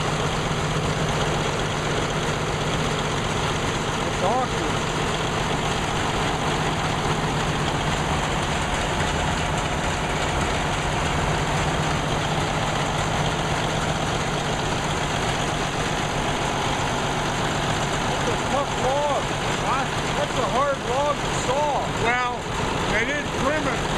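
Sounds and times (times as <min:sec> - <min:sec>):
sawmill sawing a log: 0:00.0 - 0:23.9.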